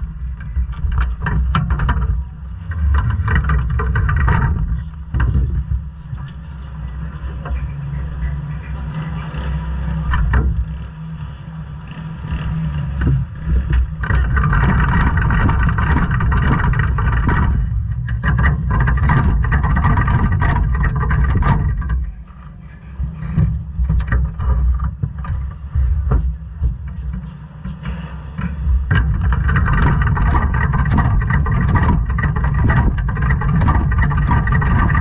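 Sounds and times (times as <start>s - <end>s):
nearby engine buzzing: 0.0s - 35.0s
small race car engines rumbling: 0.0s - 35.0s.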